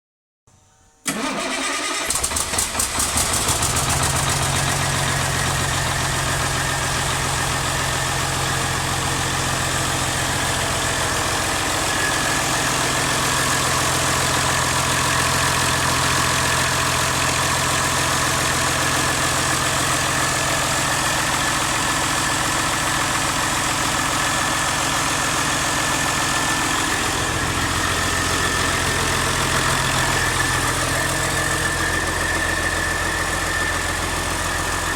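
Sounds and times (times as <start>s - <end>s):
diesel engine starting and idling: 1.0s - 34.9s.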